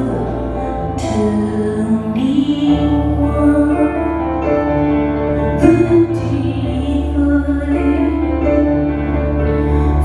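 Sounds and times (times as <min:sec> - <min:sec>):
grand piano and keyboards: 0:00.0 - 0:10.0
woman singing: 0:00.0 - 0:10.0.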